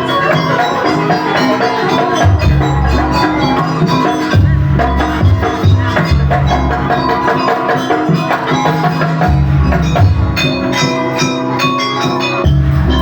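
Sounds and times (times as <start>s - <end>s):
drums with deep beats: 0.0s - 13.0s
ringing metal percussion: 0.0s - 13.0s
sustained pitched tones: 0.0s - 13.0s.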